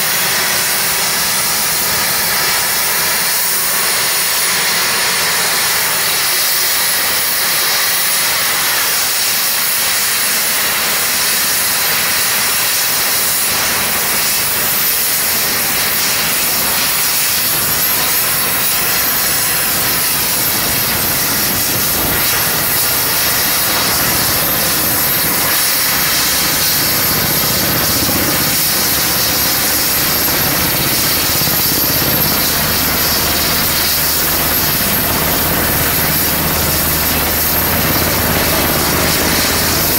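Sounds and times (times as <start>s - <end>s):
helicopter engines rushing hiss: 0.0s - 39.9s
high turbine whine: 0.0s - 39.9s.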